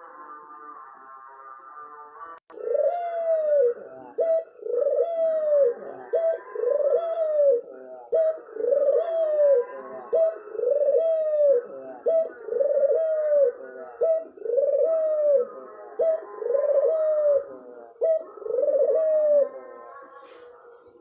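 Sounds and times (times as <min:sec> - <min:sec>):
dove cooing: 0:02.5 - 0:21.0.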